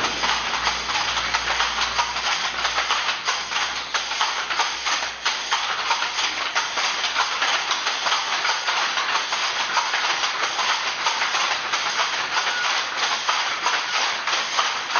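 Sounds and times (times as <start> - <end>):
handlooms clacking: 0.0 - 14.9.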